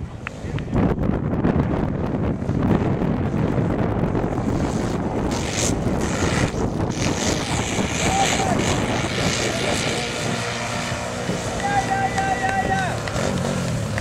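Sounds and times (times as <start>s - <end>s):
atv engines running hard: 0.0s - 14.0s
wind buffeting microphone: 0.0s - 14.0s.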